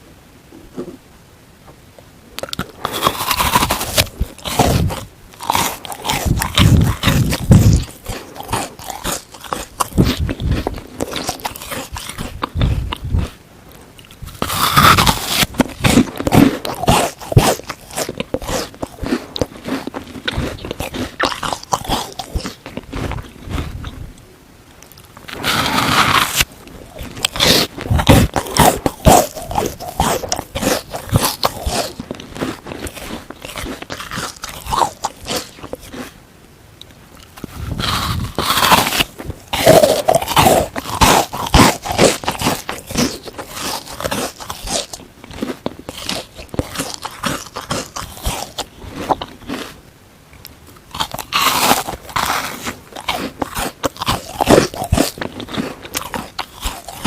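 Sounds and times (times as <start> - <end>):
crunching and crackling chewing: 2.4 - 36.2, 36.8 - 57.0.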